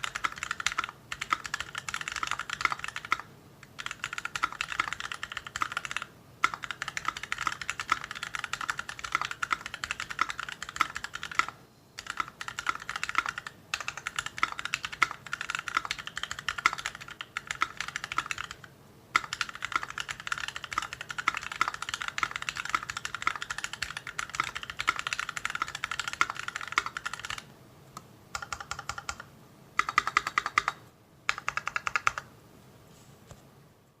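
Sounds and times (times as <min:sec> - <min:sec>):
mechanical keyboard typing: 0:00.0 - 0:27.5, 0:28.3 - 0:32.3.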